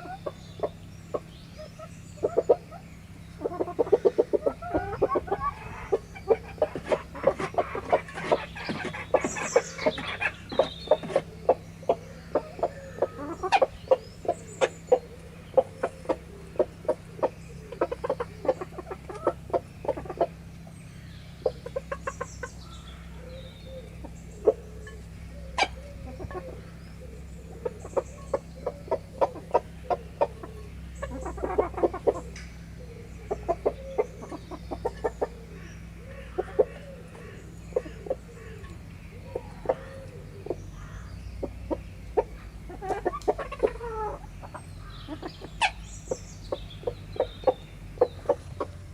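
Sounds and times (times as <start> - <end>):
chickens pecking: 0.0 - 20.8, 21.4 - 26.7, 27.4 - 48.9
chickens clucking: 0.0 - 48.9.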